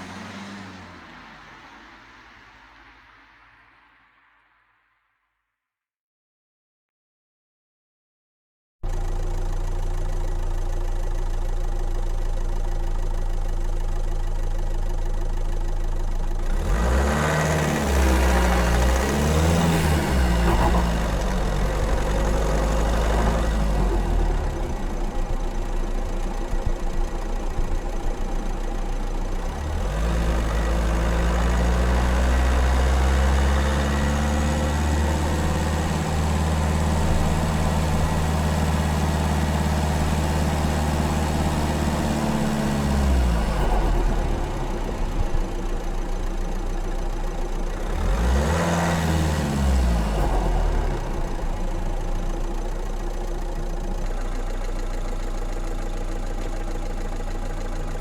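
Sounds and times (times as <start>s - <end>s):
car engine idling and revving: 0.0s - 4.2s, 8.8s - 58.0s.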